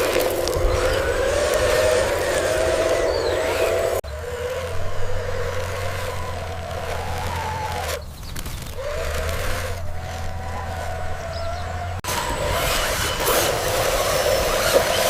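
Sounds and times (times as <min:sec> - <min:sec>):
electric gear motors whining: 0:00.0 - 0:15.0.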